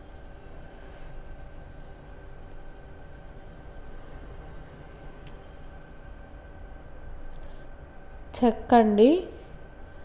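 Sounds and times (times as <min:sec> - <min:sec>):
faint constant hum: 0:00.0 - 0:10.0.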